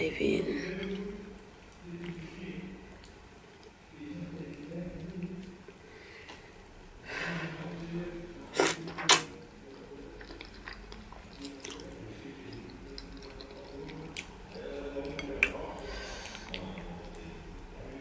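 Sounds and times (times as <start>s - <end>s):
quiet chewing: 0.6s - 6.5s, 8.4s - 18.0s.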